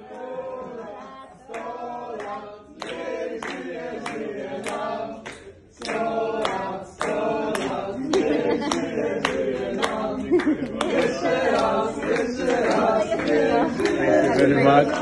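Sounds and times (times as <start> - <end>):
group of people singing together: 0.0 - 15.0
people clapping on the beat: 0.0 - 15.0.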